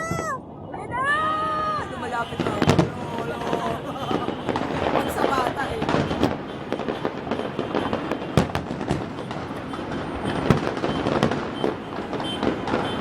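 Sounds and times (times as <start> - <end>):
fireworks bangs and crackles: 0.0 - 13.0
loud firework booms: 0.0 - 13.0.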